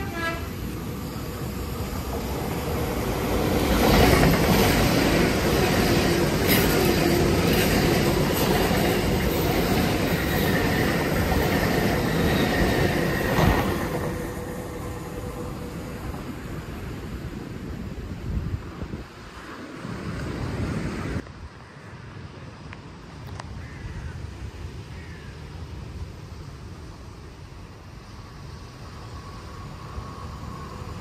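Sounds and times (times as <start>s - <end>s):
train passing at speed: 0.0s - 23.4s, 24.2s - 31.0s.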